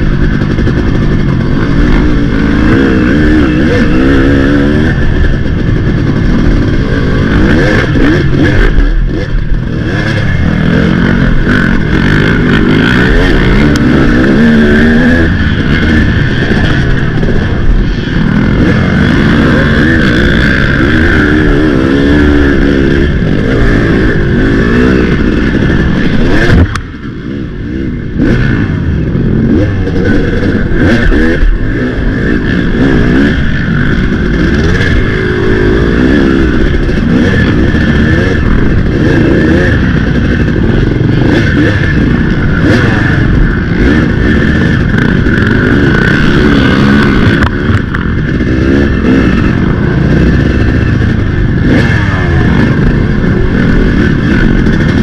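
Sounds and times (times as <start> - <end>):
off-road race engine running hard: 0.0 - 55.0.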